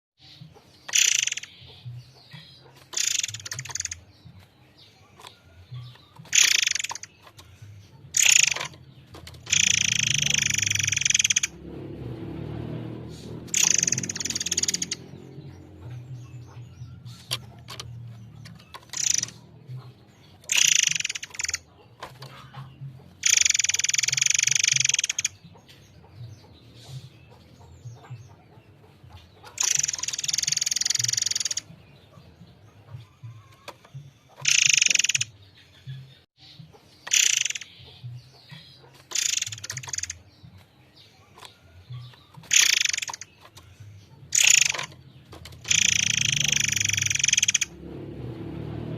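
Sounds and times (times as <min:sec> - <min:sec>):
songbird singing: 0:00.2 - 0:48.9.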